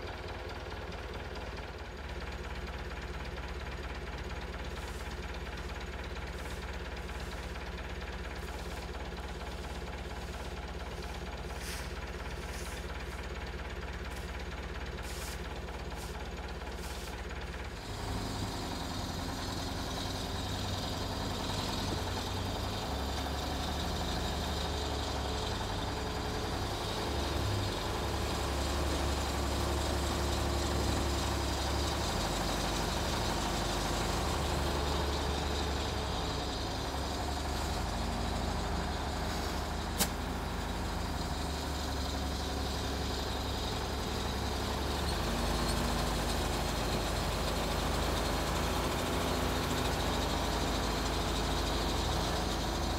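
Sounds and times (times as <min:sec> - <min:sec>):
heavy vehicle engine running: 0:00.0 - 0:52.9.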